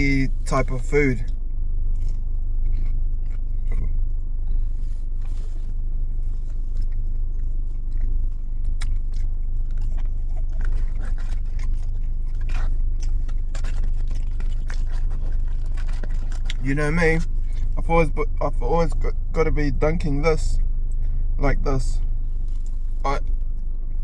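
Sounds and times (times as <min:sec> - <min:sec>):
person chewing crunchy food: 0:00.0 - 0:19.0, 0:22.0 - 0:24.0
car engine idling: 0:00.0 - 0:24.0.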